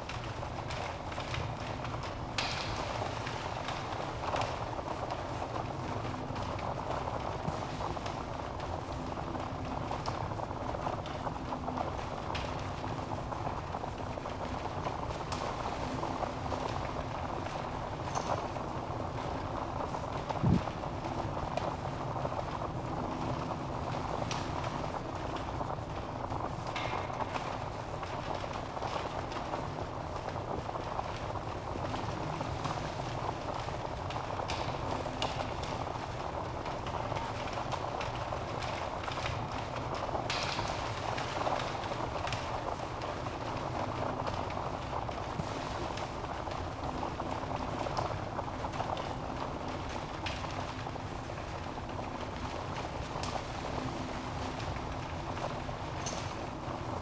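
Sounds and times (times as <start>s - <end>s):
fire crackling and hissing: 0.0s - 57.0s.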